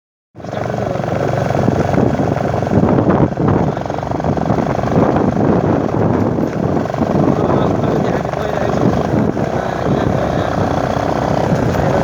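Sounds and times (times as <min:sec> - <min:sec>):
motorcycle engine running: 0:00.4 - 0:12.0
wind rushing over microphone: 0:00.5 - 0:12.0.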